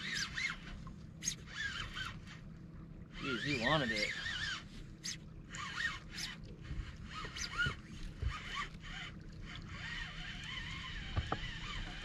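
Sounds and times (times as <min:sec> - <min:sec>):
fishing reel ratcheting whir: 0:00.0 - 0:02.4, 0:03.1 - 0:12.0.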